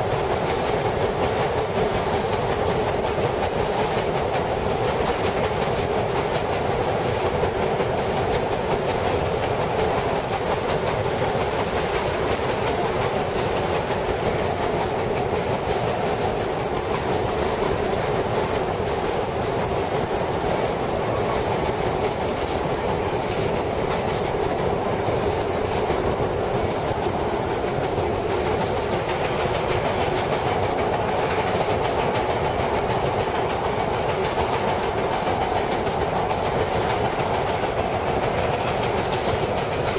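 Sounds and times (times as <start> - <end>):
subway car wheels on rail: 0.0 - 39.9.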